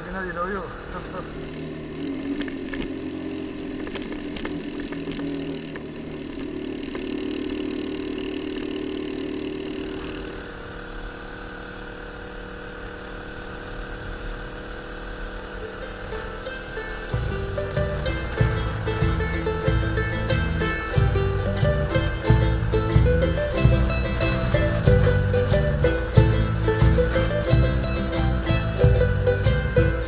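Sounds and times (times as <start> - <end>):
gravel ticks: 0.0 - 30.0
motorcycle engine cruising: 0.0 - 30.0
road and wind noise: 0.0 - 30.0.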